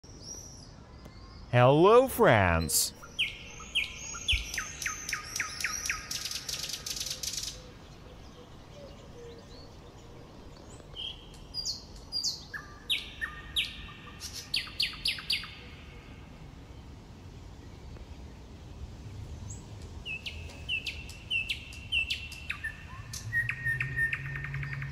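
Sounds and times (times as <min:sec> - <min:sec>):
songbird singing: 0:00.1 - 0:15.8, 0:19.4 - 0:24.9.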